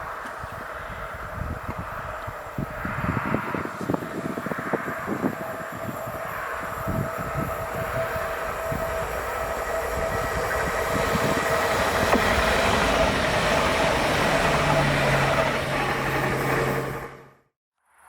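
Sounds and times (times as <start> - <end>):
train wheels rumbling on track: 0.0 - 17.4.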